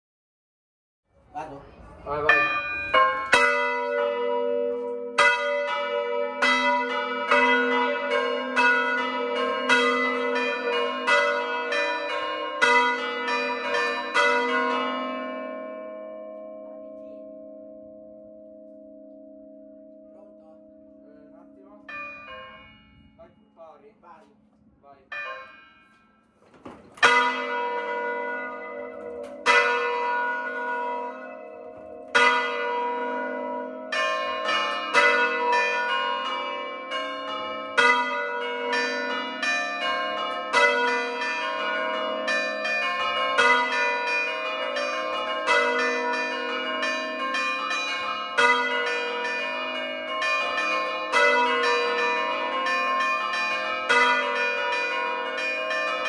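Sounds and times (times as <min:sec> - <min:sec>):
church bells ringing: 0:01.5 - 0:26.4, 0:27.0 - 0:56.0.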